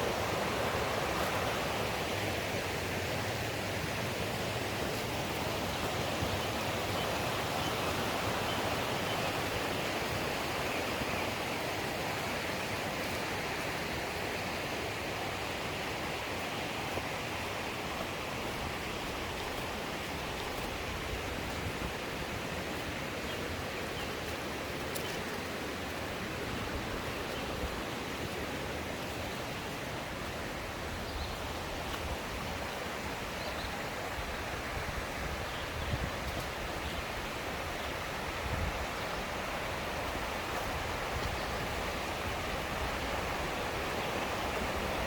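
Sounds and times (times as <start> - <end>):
stream running over rocks: 0.0 - 45.0.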